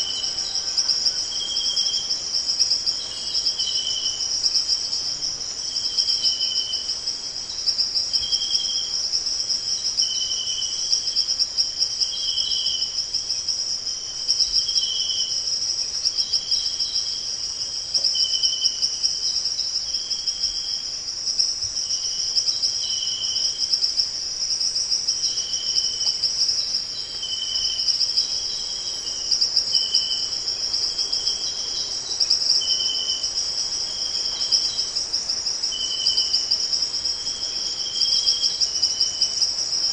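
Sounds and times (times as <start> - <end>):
insect chirps: 0.0 - 39.9
insect chorus pulsing trill: 0.0 - 39.9.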